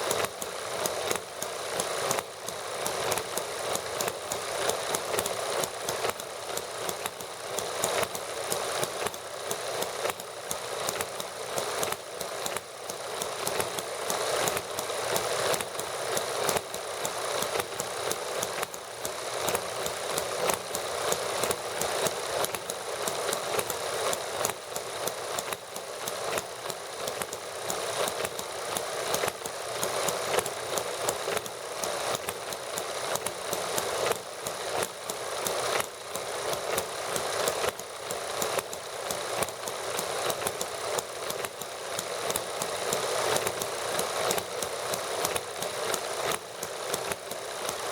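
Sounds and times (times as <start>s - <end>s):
small model engines clattering: 0.0s - 47.9s.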